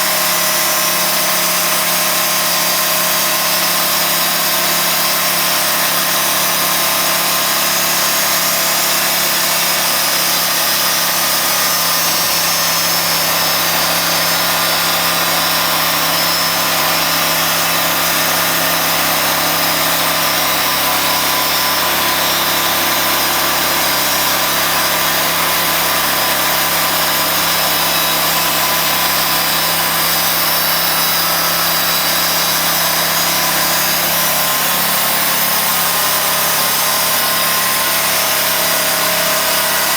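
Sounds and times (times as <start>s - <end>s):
sawmill blade cutting log: 0.0s - 39.9s
sawmill engine running: 0.0s - 39.9s.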